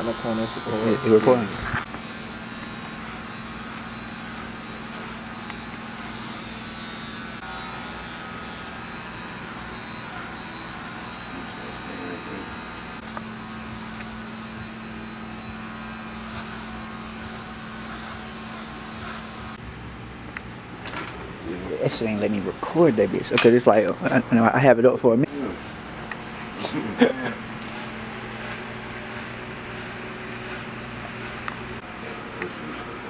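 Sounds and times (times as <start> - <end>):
electric hair clippers buzzing: 0.0 - 19.6, 25.3 - 33.0.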